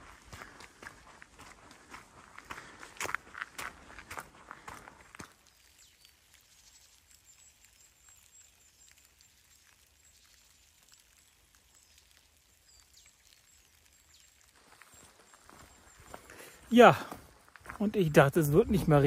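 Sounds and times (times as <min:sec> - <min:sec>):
faint high chirps and ticks: 0:00.1 - 0:19.0.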